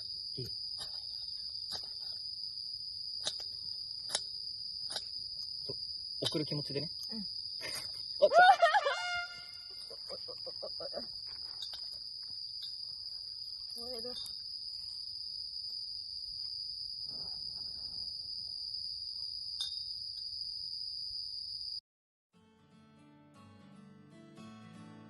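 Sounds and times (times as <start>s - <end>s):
crickets chirring: 0.0s - 21.8s.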